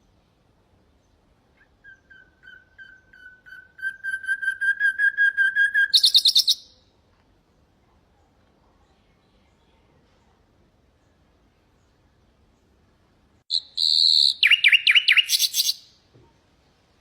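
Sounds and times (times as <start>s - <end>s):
nightingale song: 0.0s - 9.8s, 10.9s - 16.1s.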